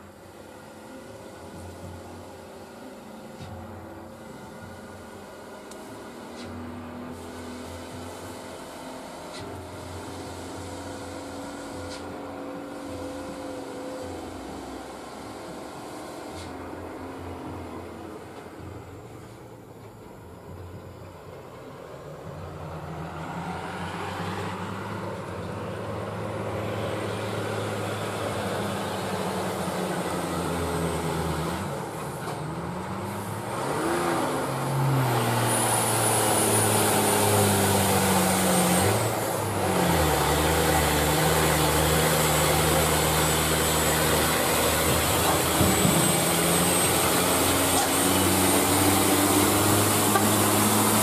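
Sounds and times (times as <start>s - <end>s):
truck diesel engine labouring: 0.0s - 51.0s.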